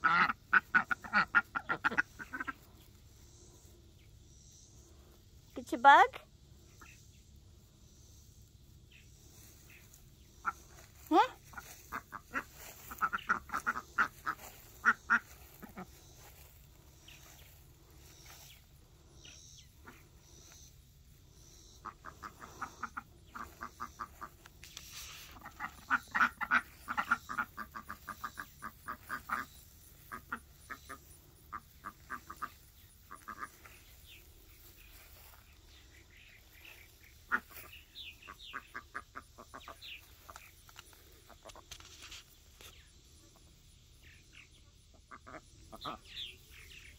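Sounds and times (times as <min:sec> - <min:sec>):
ducks quacking: 0:00.0 - 0:04.0, 0:04.7 - 0:41.8, 0:42.7 - 0:46.9.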